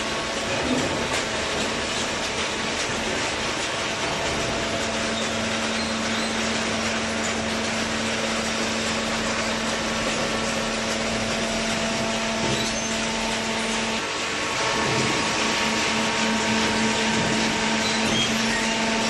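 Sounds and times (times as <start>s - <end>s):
baler motor and pump humming: 0.0s - 19.0s.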